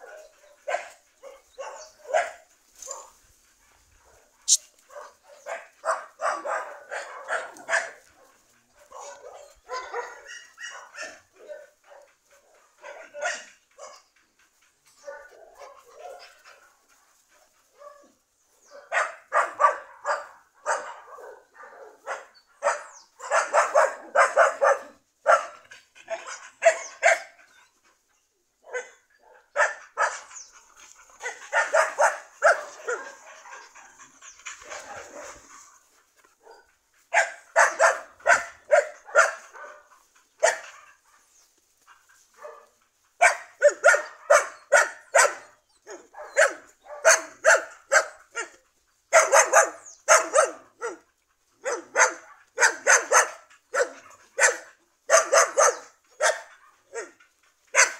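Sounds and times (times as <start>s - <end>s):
dog barking: 0.0s - 3.2s, 4.0s - 14.1s, 15.0s - 16.7s, 17.4s - 27.4s, 28.6s - 30.4s, 31.2s - 35.6s, 36.4s - 41.1s, 42.4s - 57.9s.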